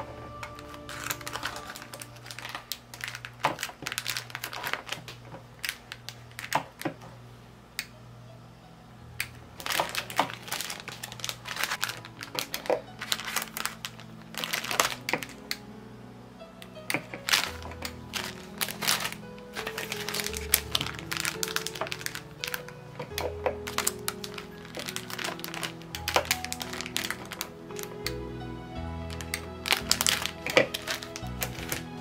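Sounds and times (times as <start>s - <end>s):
plastic bags crinkling: 0.4s - 7.0s, 9.6s - 15.6s, 16.8s - 28.1s, 29.1s - 32.0s.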